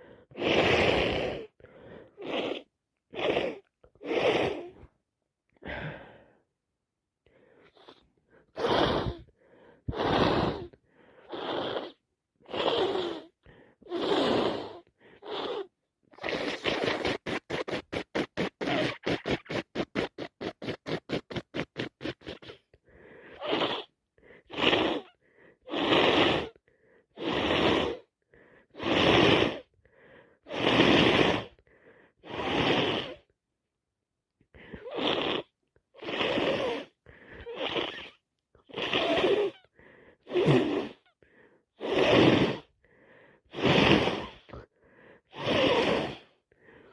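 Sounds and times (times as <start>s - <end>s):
stuffed nose sniffing: 0.0s - 4.9s, 7.3s - 33.3s, 34.5s - 46.9s.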